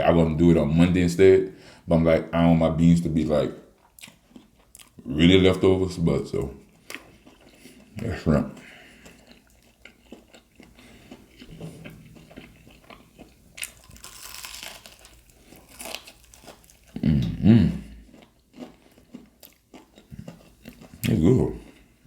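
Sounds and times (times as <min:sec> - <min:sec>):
chewing crispy fried food: 0:03.7 - 0:22.0.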